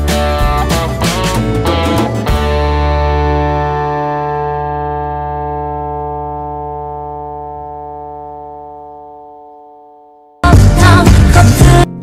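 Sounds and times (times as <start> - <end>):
held music chord: 0.0 - 11.0.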